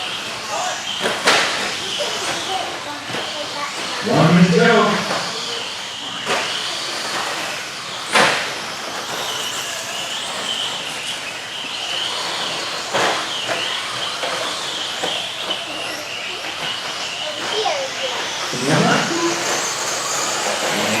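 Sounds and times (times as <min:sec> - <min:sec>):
rc truck motor whine: 0:00.0 - 0:21.0
tyre and track noise: 0:00.1 - 0:21.0.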